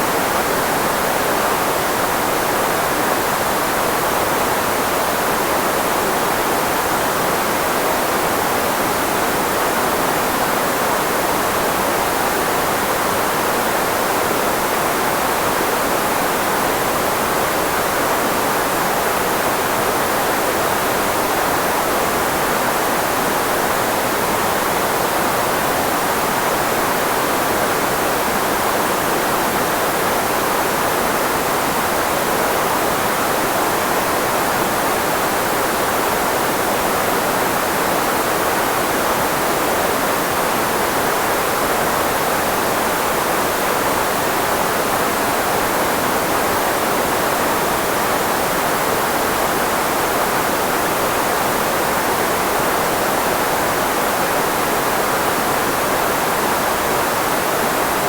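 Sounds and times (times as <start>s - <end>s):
filtered white noise hiss: 0.0s - 58.0s.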